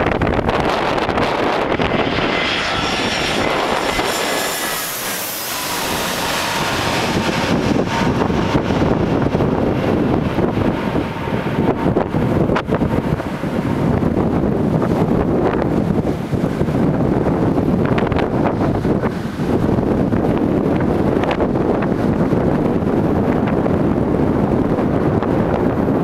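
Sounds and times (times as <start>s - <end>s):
jet engines passing: 0.0s - 25.0s
wind buffeting microphone: 0.0s - 26.0s.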